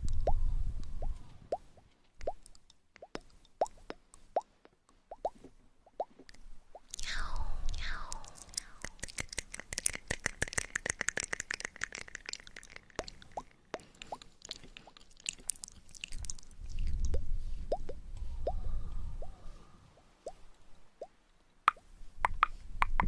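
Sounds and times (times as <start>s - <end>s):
tongue pops: 0.0s - 18.6s, 21.0s - 23.0s
wet mouth clicks: 1.5s - 18.6s, 20.3s - 23.0s.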